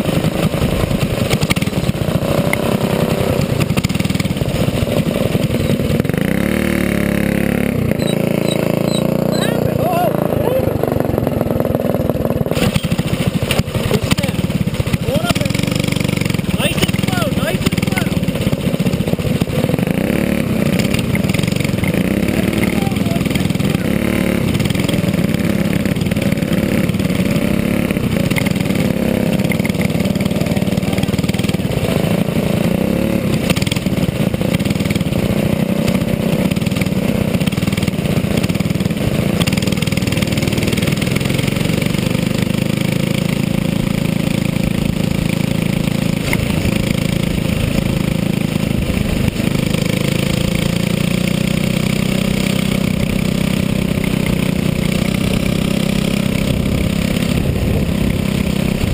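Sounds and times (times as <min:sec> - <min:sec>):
go-kart engine running: 0:00.0 - 0:58.9.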